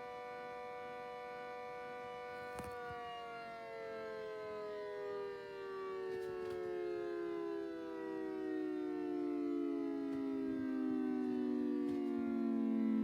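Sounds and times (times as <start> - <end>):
air raid siren wail: 0.0 - 13.0.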